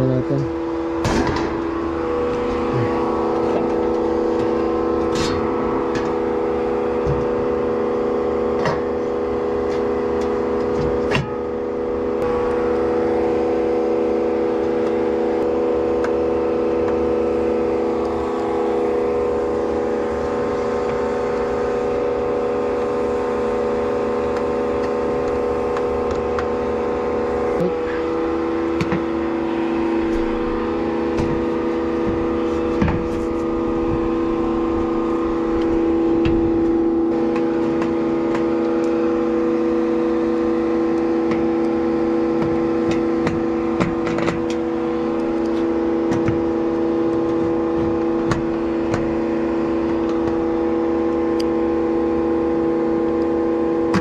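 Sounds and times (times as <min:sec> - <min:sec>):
motor humming with pitched tones: 0:00.0 - 0:54.0.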